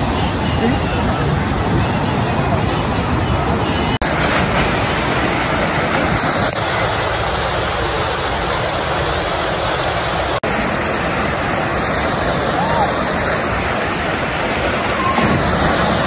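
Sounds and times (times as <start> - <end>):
water rushing and splashing: 0.0 - 16.0.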